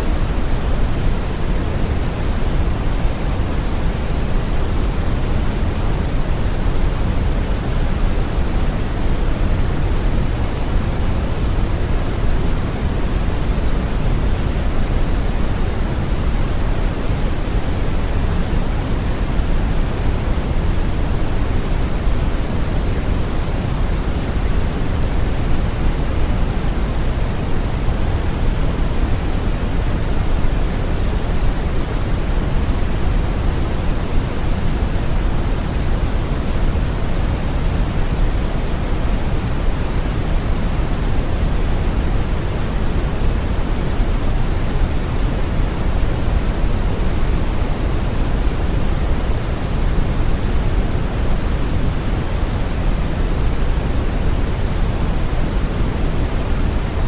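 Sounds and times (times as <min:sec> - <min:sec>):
steady brown noise: 0:00.0 - 0:57.0.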